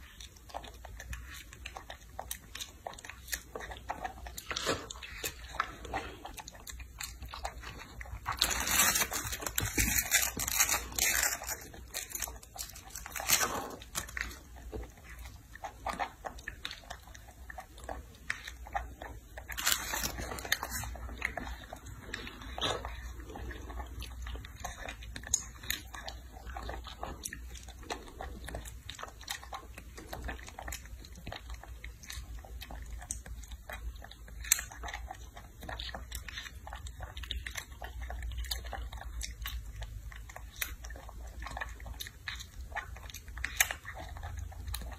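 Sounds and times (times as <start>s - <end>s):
monkey chewing strawberries: 0.0s - 44.9s.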